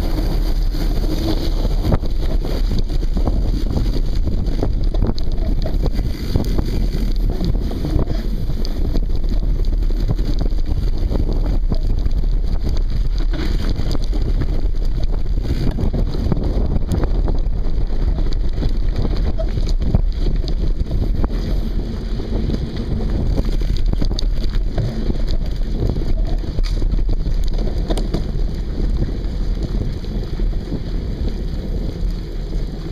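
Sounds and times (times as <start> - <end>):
bike knocks and rattles: 0.0 - 30.0
low rumble: 0.0 - 32.9
wind buffeting microphone: 0.0 - 32.9.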